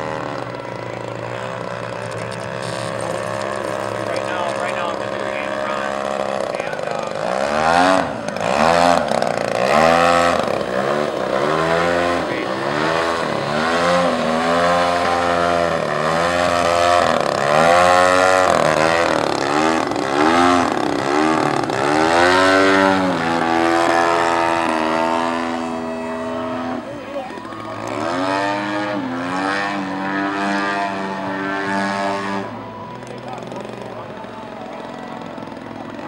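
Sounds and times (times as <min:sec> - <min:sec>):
model airplane engine revving: 0:00.0 - 0:36.0.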